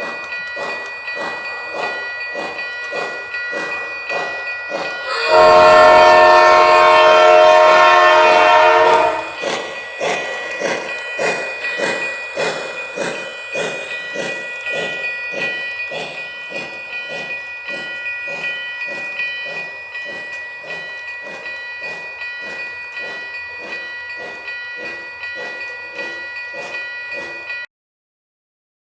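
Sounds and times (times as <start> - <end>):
steam train chuffing: 0.0 - 27.7.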